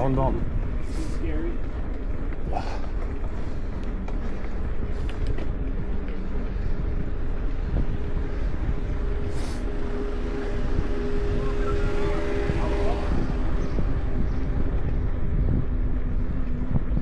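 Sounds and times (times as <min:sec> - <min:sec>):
bike tyres rolling on asphalt: 0:00.0 - 0:17.0
steady hum: 0:00.0 - 0:17.0
wind buffeting microphone: 0:00.0 - 0:17.0.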